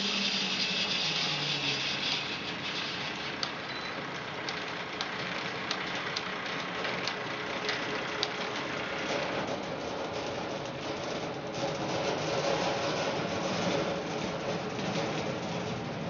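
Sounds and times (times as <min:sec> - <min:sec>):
bandsaw sawmill running: 0:00.0 - 0:16.0.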